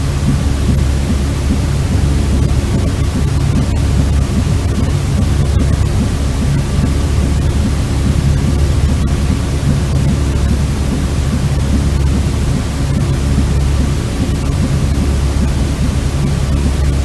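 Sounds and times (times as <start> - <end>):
deep white noise: 0.0 - 17.0.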